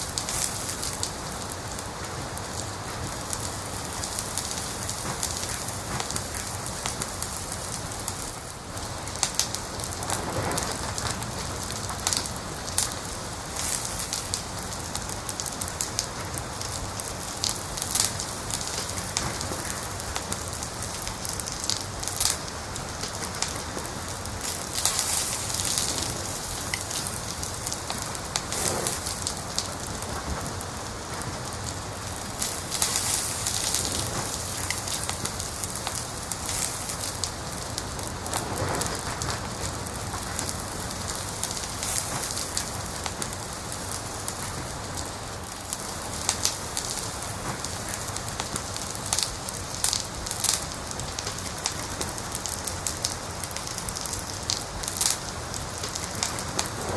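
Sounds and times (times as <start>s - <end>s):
fire crackling and popping: 0.0s - 56.9s
fire hissing: 0.0s - 56.9s.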